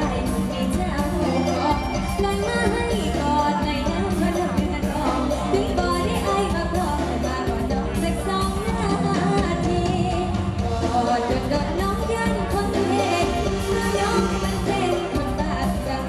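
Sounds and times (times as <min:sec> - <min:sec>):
live band through loudspeakers: 0:00.0 - 0:16.0
steady drum beat: 0:00.0 - 0:16.0
woman singing lead: 0:00.0 - 0:16.0.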